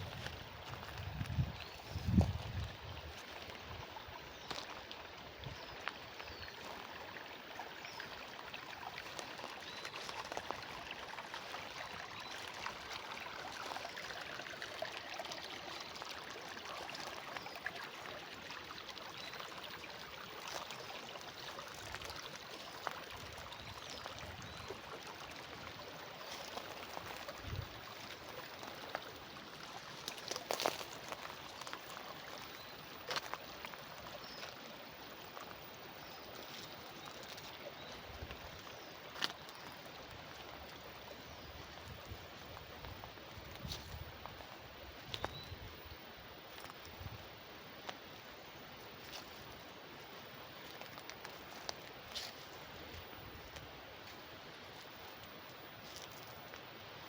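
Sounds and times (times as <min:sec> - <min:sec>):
water trickling in channel: 0:00.0 - 0:57.0.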